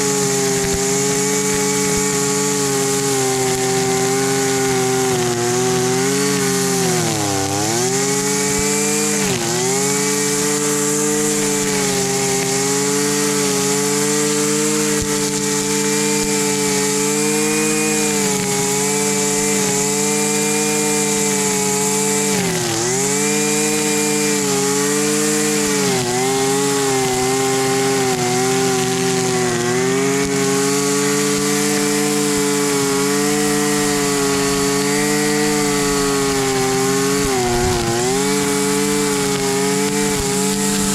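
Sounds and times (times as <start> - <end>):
string trimmer engine running: 0.0 - 40.9.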